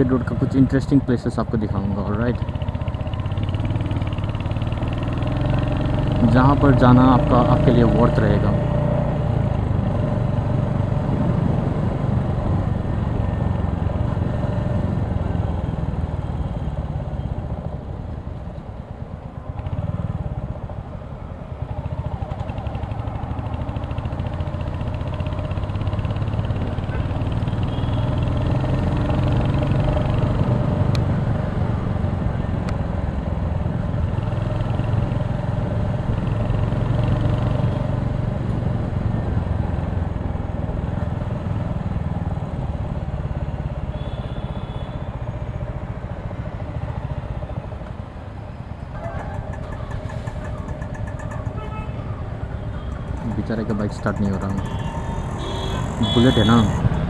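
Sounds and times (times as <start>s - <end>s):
motorcycle engine running: 1.5s - 17.9s, 21.5s - 48.3s, 48.9s - 57.0s.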